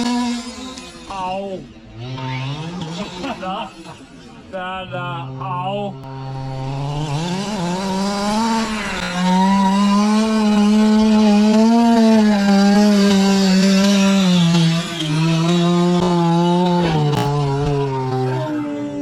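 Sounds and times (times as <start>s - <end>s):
small two-stroke engine buzzing: 0.0s - 4.5s, 5.2s - 19.0s.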